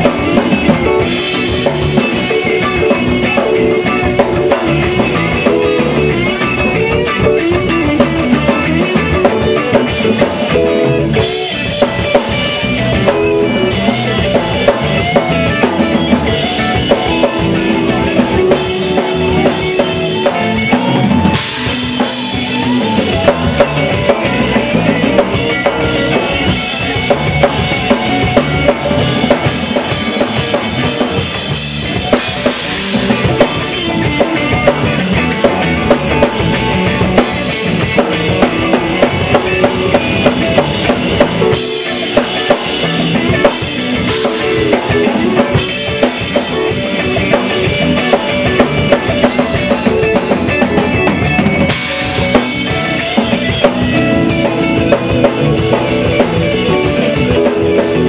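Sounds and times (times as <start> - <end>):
drum kit: 0.0 - 58.0
jazz-fusion band playing: 0.0 - 58.0.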